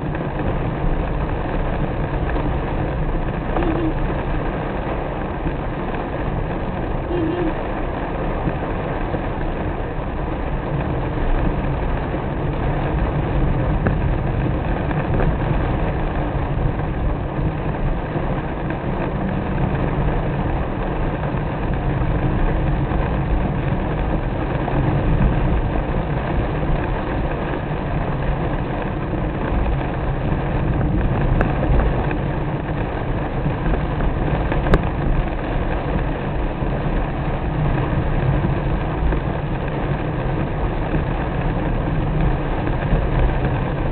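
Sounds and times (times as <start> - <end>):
car engine and road noise: 0.0 - 43.9
rain hissing: 0.0 - 43.9.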